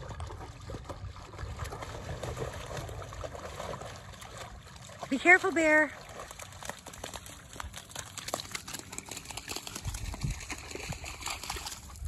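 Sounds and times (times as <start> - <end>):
puppies splashing in water: 0.0 - 12.0.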